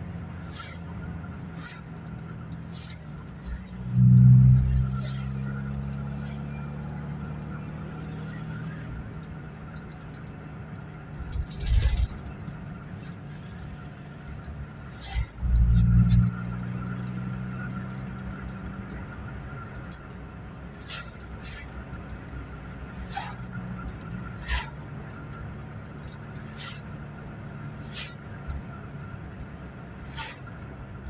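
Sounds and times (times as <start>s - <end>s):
car engine running: 0.0s - 31.0s
tyre and road noise: 0.0s - 31.0s.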